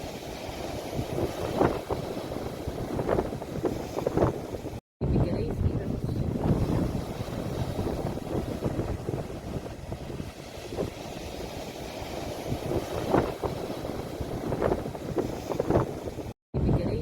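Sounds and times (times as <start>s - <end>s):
sea waves washing: 0.0s - 4.8s, 5.4s - 16.4s
wind buffeting microphone: 0.0s - 17.0s.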